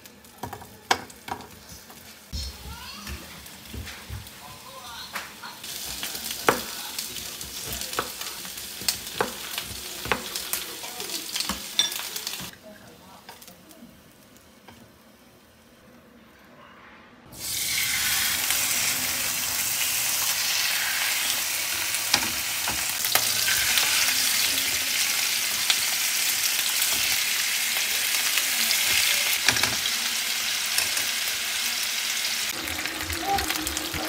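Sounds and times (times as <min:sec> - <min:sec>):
chicken sizzling in oil: 0:00.0 - 0:12.5, 0:17.3 - 0:34.0.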